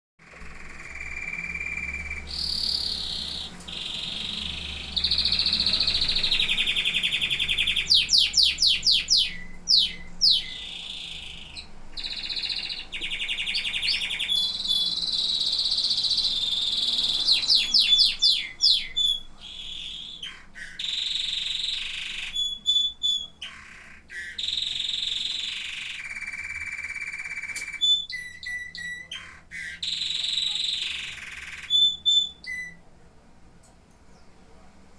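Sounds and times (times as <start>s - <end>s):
canary singing trills: 0.2s - 32.9s.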